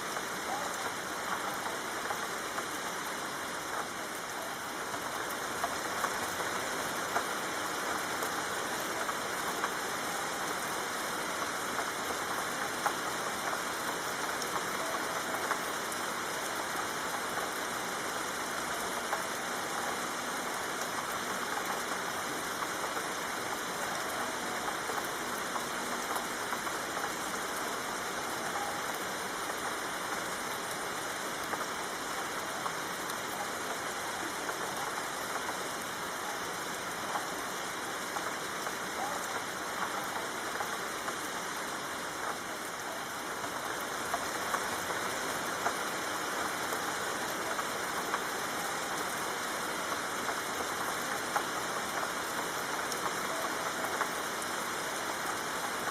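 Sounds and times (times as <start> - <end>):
soft rain falling: 0.0 - 55.9.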